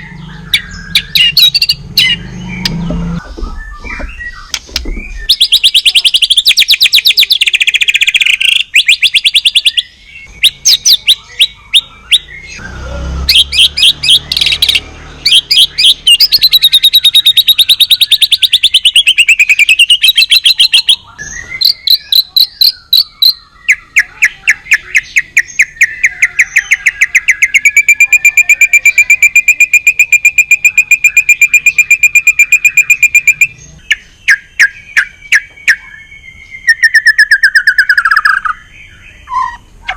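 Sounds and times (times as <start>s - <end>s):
songbird whistling and trilling: 0.0s - 39.9s.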